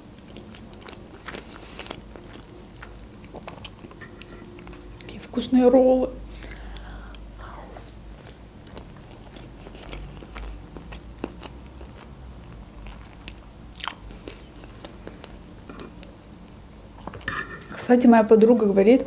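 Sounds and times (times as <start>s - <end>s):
person chewing food: 0.0s - 5.1s, 6.3s - 17.3s.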